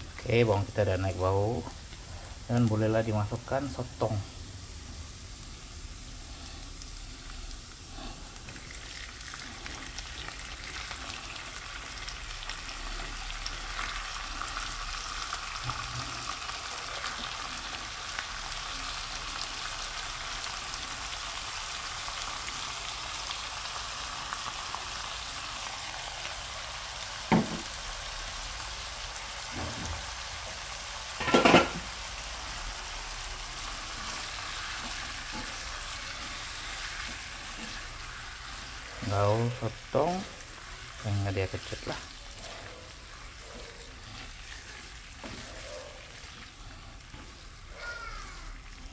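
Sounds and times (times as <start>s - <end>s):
squid sizzling in hot oil: 0.0s - 48.9s.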